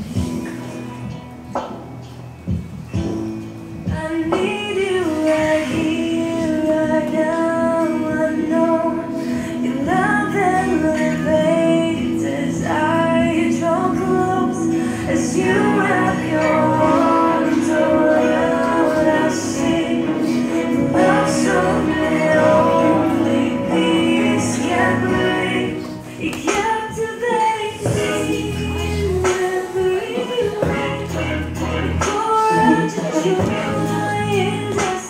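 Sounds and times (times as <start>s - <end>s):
sustained instrumental backing: 0.0s - 35.0s
person singing: 3.9s - 35.0s.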